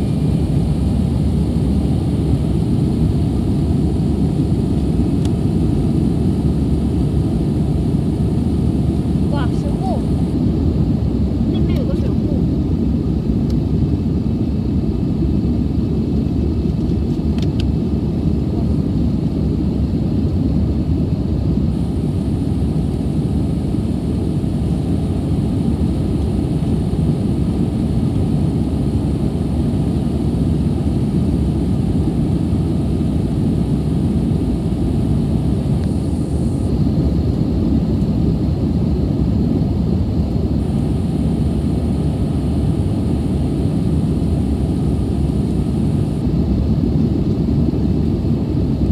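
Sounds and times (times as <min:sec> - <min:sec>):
jet engine roar in cabin: 0:00.0 - 0:48.9.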